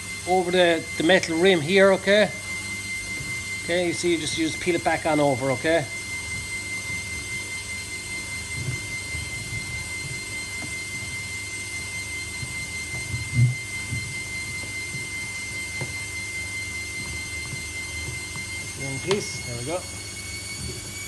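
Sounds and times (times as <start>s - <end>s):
high-pitched whine: 0.0s - 21.0s.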